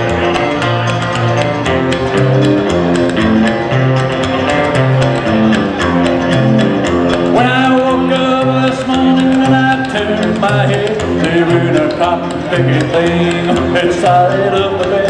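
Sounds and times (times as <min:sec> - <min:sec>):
bright guitar lead line: 0:00.0 - 0:15.0
country band playing: 0:00.0 - 0:15.0
walking upright bass: 0:00.0 - 0:15.0.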